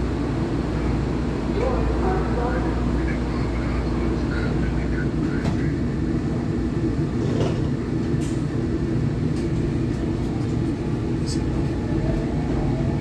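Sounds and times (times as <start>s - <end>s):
subway wheels rumbling on rail: 0.0s - 13.0s.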